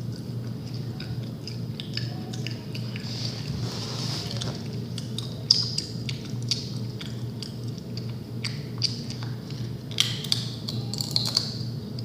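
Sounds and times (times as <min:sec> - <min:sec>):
crunchy food being chewed: 0:00.0 - 0:12.0
steady low hum: 0:00.0 - 0:12.0.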